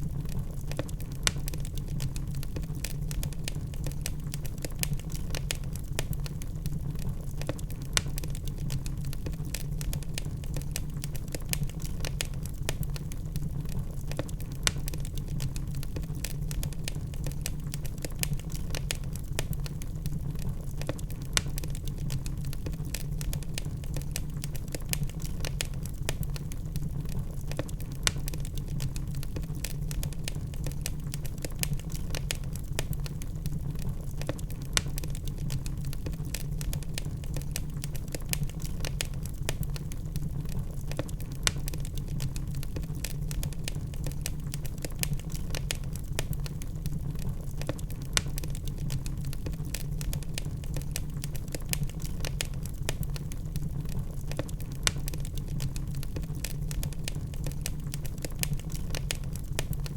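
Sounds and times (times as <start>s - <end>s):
log fire crackling and snapping: 0.0s - 59.9s
low rumble of flames: 0.0s - 59.9s.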